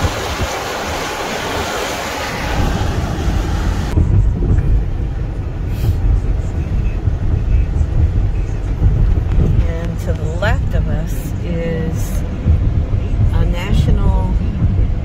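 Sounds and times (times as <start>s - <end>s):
low road rumble: 0.0s - 15.0s.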